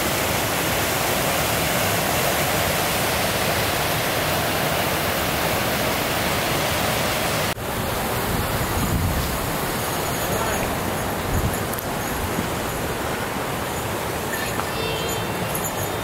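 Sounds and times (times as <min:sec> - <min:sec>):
soft water rushing: 0:00.0 - 0:16.0
waterfall rushing: 0:00.0 - 0:16.0.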